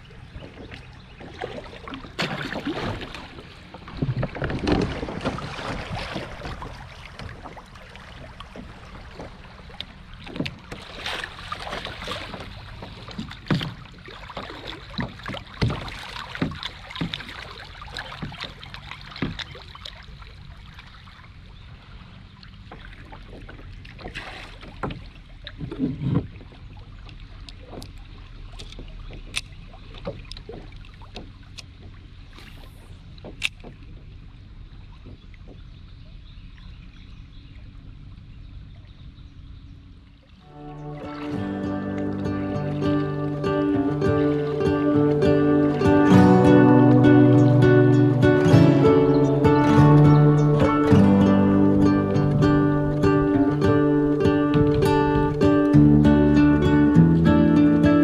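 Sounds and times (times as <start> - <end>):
kayak paddle strokes: 0.0 - 36.8, 40.4 - 58.0
water splashing and rushing: 0.0 - 36.9, 39.8 - 58.0.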